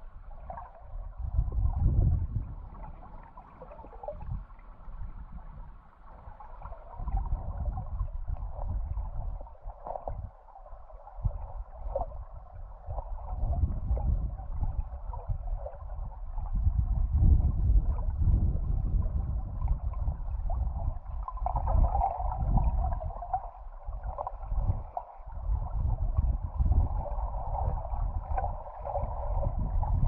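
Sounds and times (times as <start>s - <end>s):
underwater river rumble: 0.0s - 30.0s.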